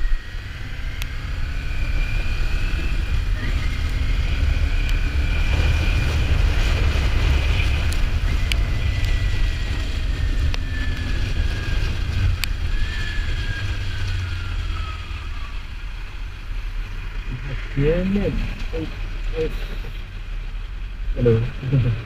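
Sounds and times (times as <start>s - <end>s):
faint motorcycle whine: 0.0s - 22.0s
wind rushing over microphone: 0.0s - 22.0s.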